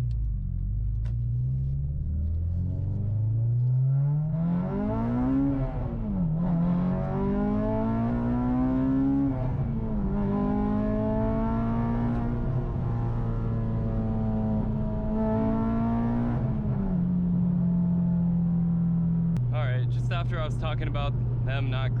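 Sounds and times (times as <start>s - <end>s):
car engine revving under throttle: 1.6s - 22.0s.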